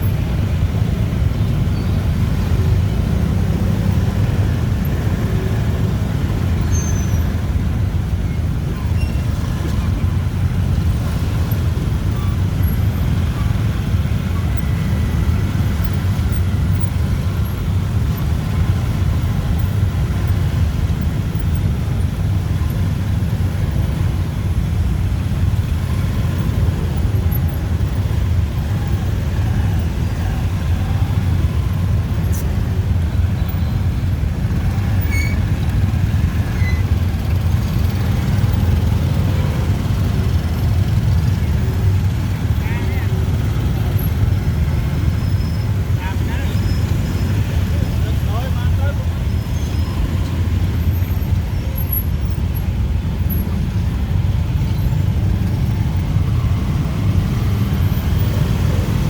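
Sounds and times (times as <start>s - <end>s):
city street traffic rumble: 0.0s - 59.0s.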